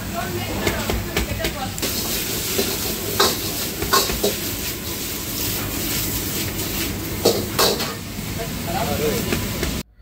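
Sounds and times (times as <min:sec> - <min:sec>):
hiss of burners and steam: 0:00.0 - 0:09.9.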